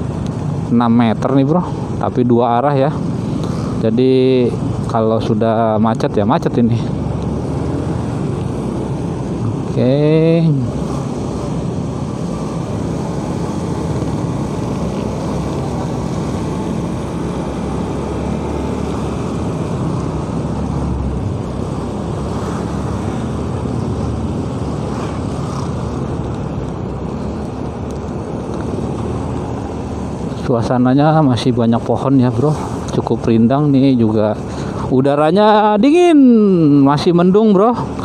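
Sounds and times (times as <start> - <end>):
motorcycle engine hum: 0.0 - 38.0
tyres on wet road: 0.0 - 38.0.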